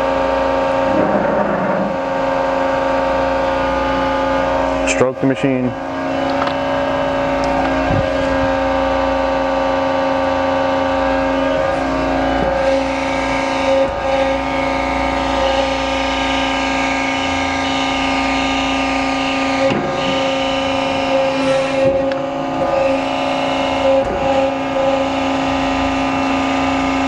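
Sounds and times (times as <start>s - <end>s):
hydraulic pump whine: 0.0s - 27.0s.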